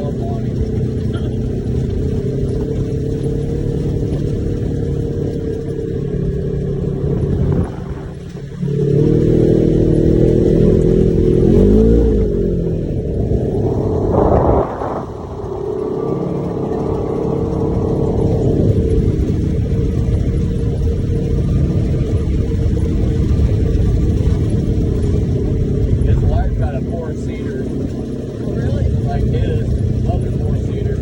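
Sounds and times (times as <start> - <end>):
utility vehicle engine running: 0.0 - 31.0.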